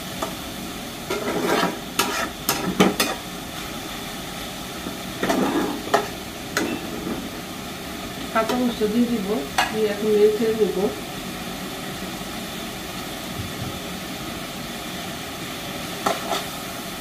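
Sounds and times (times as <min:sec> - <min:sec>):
greens sizzling in a pan: 0:00.0 - 0:17.0.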